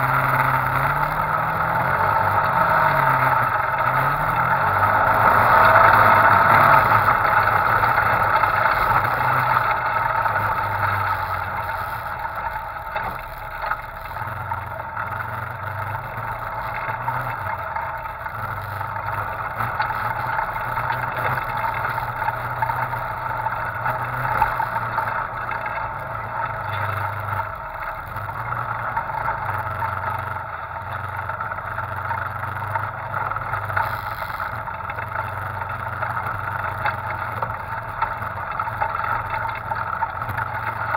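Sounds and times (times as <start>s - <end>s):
off-road vehicle engine: 0.0s - 40.9s.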